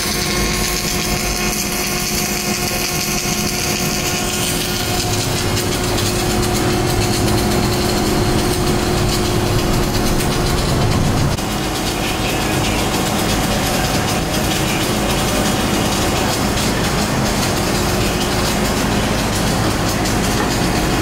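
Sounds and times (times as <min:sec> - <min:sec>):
machinery humming: 0:00.0 - 0:21.0
welding arc crackling and hissing: 0:00.0 - 0:21.0.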